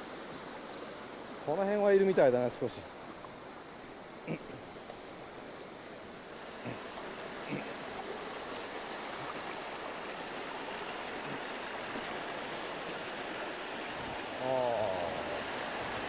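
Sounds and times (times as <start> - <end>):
stream rushing over boulders: 0.0 - 16.0.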